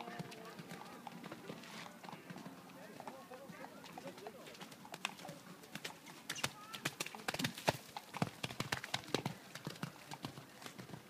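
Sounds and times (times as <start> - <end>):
horse hoofbeats on wet sand: 0.0 - 11.0.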